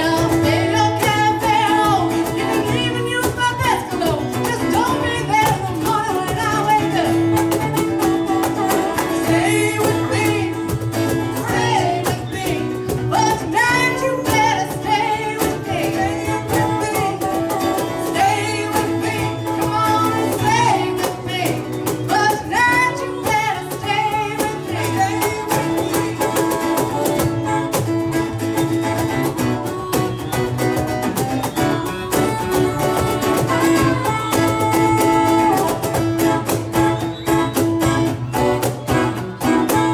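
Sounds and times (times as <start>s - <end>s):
woman singing: 0.0s - 27.8s, 32.1s - 39.9s
drum kit: 0.0s - 39.9s
strummed acoustic guitars: 0.0s - 39.9s.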